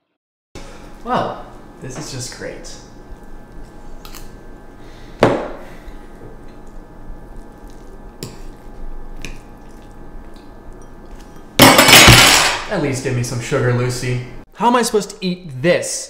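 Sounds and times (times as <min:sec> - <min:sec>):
faint steady hum: 0:00.6 - 0:15.8.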